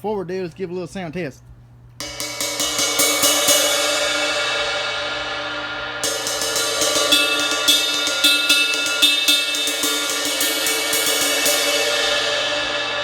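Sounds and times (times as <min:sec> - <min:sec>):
ride cymbal struck: 0:02.0 - 0:13.0.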